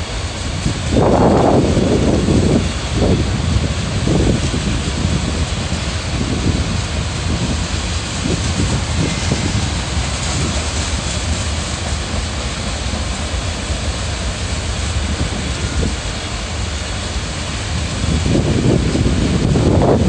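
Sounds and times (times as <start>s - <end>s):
freight train wheels rumbling on rail: 0.0s - 20.0s
wind buffeting microphone: 0.0s - 20.0s.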